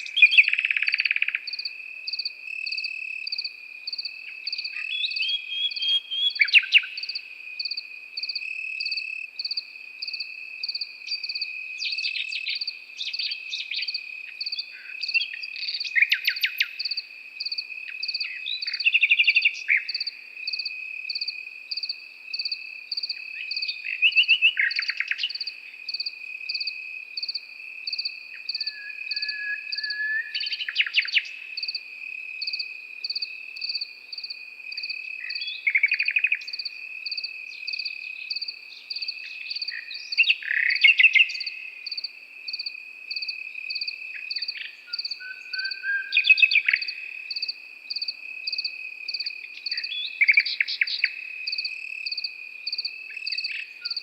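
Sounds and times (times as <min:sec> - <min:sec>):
crickets trilling: 0:00.0 - 0:54.0
nightingale singing: 0:00.0 - 0:54.0.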